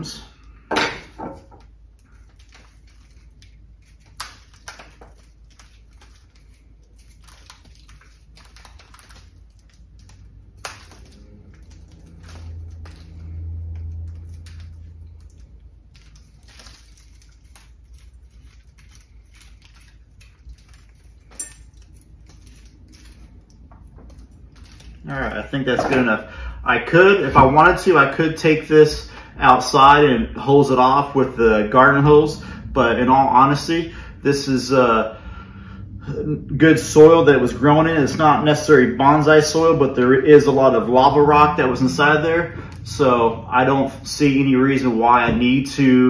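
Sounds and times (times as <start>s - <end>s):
low hum: 5.1s - 46.0s.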